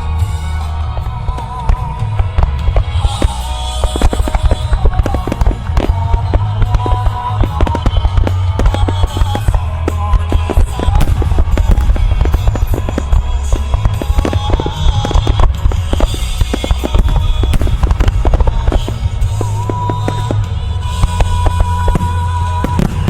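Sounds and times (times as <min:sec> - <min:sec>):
firework bursts and crackles: 0:00.0 - 0:23.0
low rumble: 0:00.0 - 0:23.0
music playing: 0:00.0 - 0:23.0.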